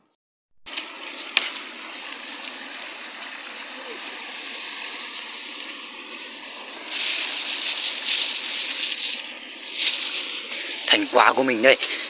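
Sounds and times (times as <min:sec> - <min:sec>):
stream running over rocks: 0:00.7 - 0:12.0.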